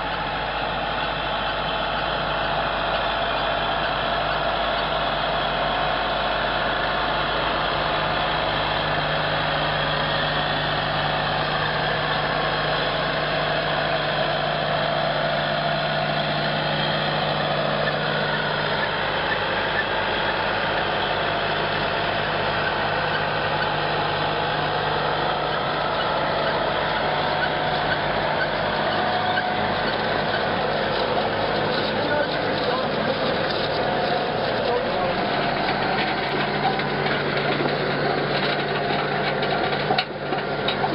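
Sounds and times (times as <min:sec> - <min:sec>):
harvester machinery noise: 0:00.0 - 0:40.9
tractor engine hum: 0:00.0 - 0:40.9.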